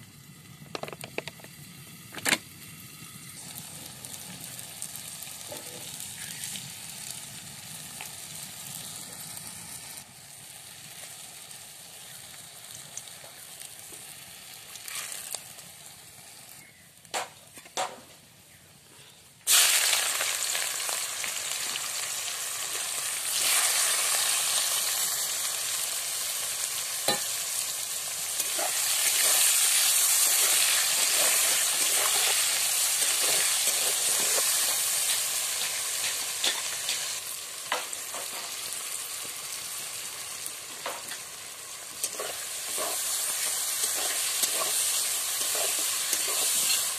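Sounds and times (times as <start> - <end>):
hot oil crackling: 0.0 - 18.0, 19.4 - 46.9
loud frying sizzle: 0.0 - 46.9.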